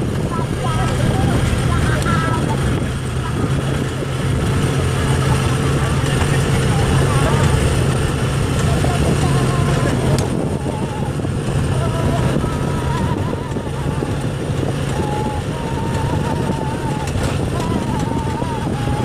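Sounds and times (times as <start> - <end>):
engine humming: 0.0 - 19.0
faint voices: 0.0 - 19.0.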